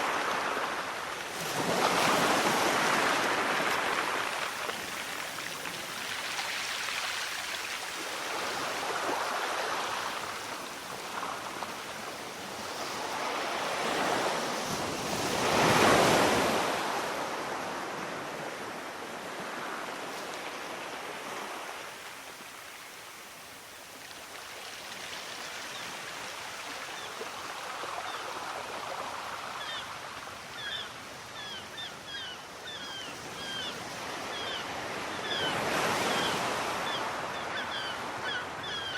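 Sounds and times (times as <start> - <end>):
sea waves washing in: 0.0 - 31.8.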